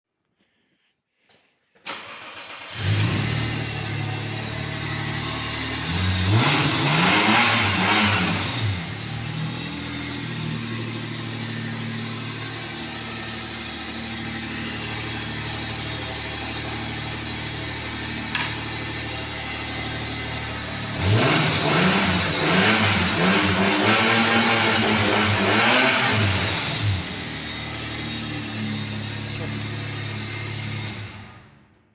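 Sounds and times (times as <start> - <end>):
car engine idling and revving: 1.9 - 31.8.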